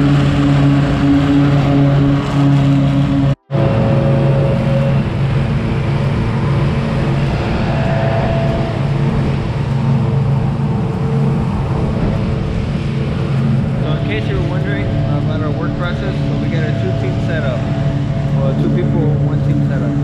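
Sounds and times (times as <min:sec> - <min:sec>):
mower engine running: 0:00.0 - 0:20.0.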